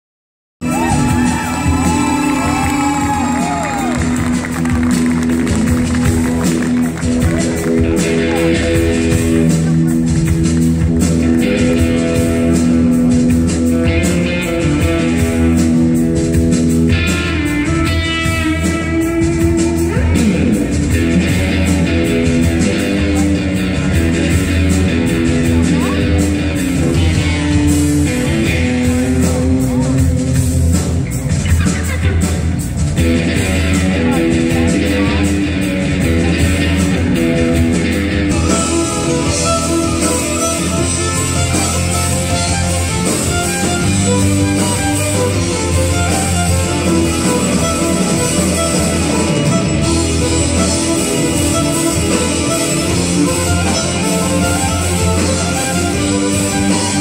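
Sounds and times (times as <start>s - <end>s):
electric guitar sustained notes: 0.6s - 31.2s, 31.8s - 57.0s
drums steady beat: 0.6s - 57.0s
live rock band playing: 0.6s - 57.0s.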